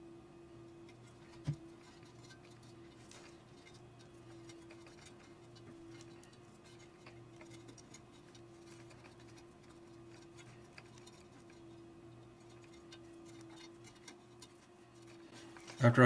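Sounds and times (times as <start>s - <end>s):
steady low hum: 0.0s - 16.0s
small clicks and crackles: 0.8s - 16.0s.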